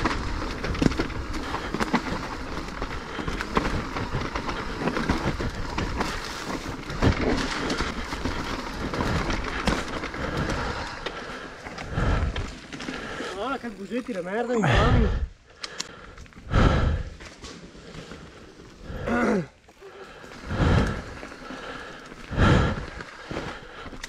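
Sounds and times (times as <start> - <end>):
mountain bike rattling over rocks: 0.0 - 24.0.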